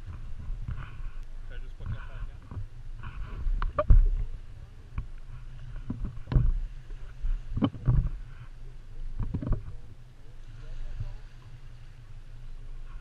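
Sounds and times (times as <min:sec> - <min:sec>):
low steady rumble: 0:00.0 - 0:13.0
water lapping against boat hull: 0:00.0 - 0:13.0.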